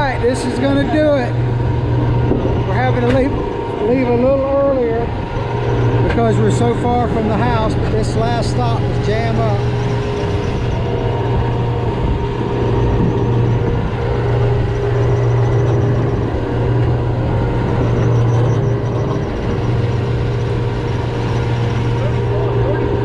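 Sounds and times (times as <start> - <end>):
anchor winch whining: 0.0 - 23.0
boat engine humming: 0.0 - 23.0.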